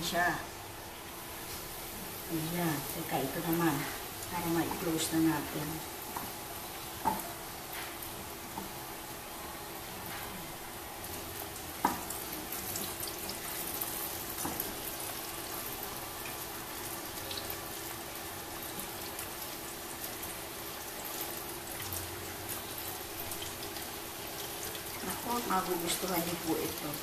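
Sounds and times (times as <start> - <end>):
oil sizzling in deep fryer: 0.0 - 27.0.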